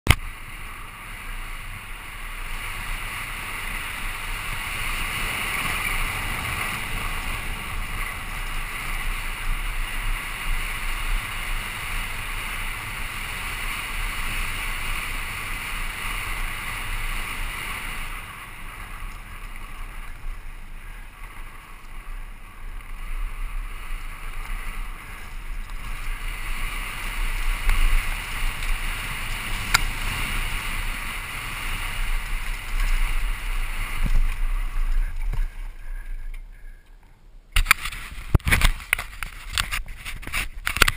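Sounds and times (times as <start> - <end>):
mountain bike rumbling and rattling: 0.1 - 40.9
wind rushing over microphone: 0.3 - 40.9.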